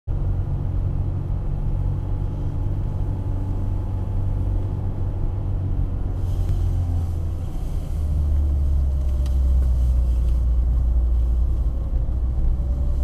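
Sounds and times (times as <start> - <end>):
car engine and tyres rumbling: 0.1 - 13.0.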